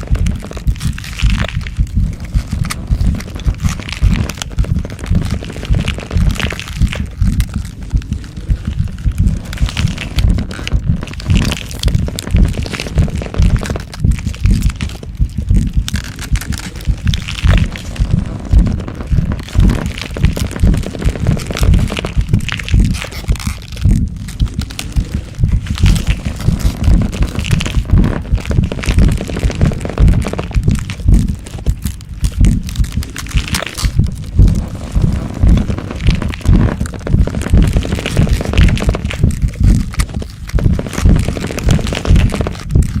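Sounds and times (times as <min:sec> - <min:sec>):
dense crackling and crunching: 0:00.0 - 0:43.0
low pulsing rumble: 0:00.0 - 0:43.0.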